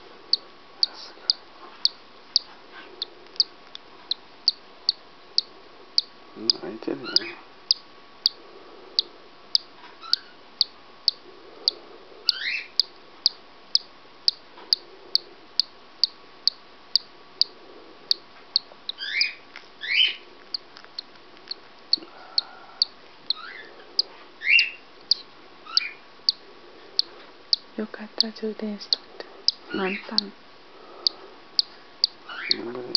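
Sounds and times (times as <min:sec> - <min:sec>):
bird chick peeping: 0:00.3 - 0:32.9.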